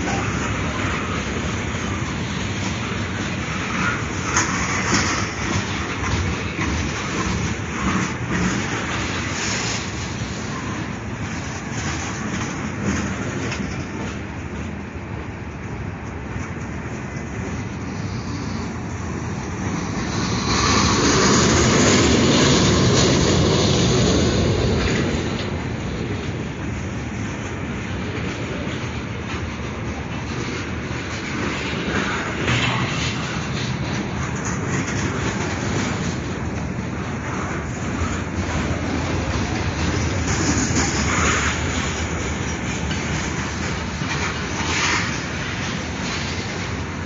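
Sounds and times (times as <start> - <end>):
freight train wheels on rails: 0.0 - 47.0.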